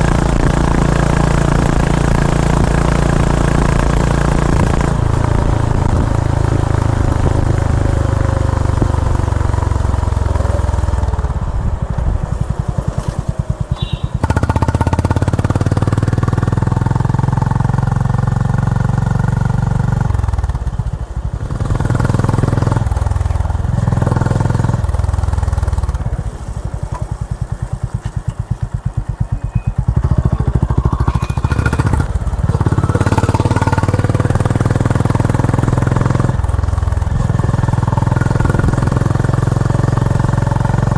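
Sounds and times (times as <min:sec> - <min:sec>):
motorcycle engine at speed: 0:00.0 - 0:40.9.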